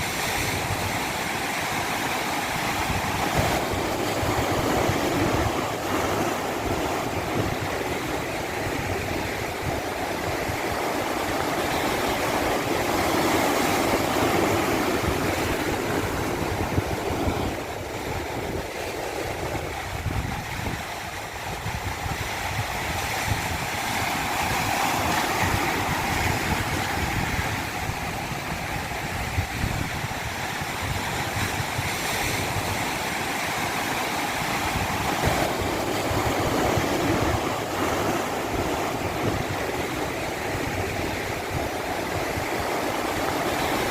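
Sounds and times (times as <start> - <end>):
water rushing: 0.0 - 43.9.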